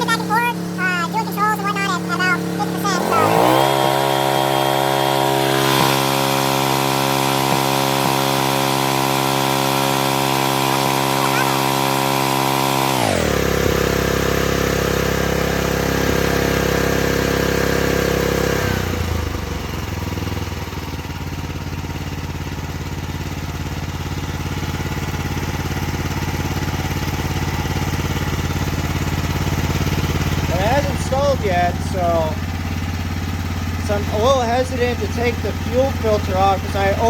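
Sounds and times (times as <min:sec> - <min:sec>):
mini excavator engine running: 0:00.0 - 0:37.0.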